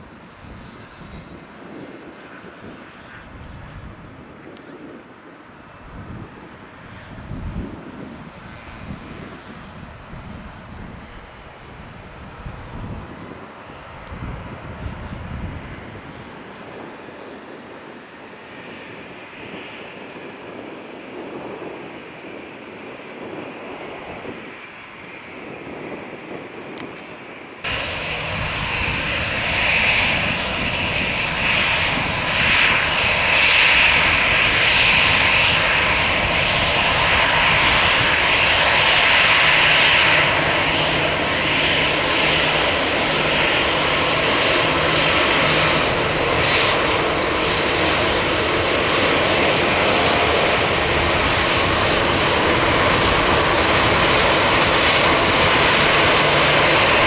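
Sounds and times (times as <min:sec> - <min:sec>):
jet engines at takeoff power: 0:00.0 - 0:57.0.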